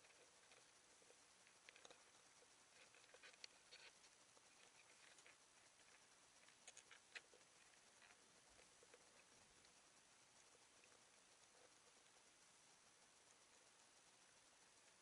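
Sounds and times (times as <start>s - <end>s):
faint underwater hiss: 0.0s - 15.0s
small clicks and ticks: 0.0s - 15.0s.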